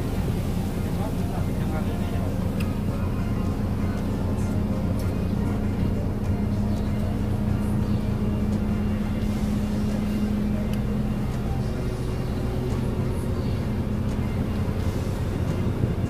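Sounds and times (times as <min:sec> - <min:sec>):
ferry engines droning: 0:00.0 - 0:16.0
wind and water rushing: 0:00.0 - 0:16.0.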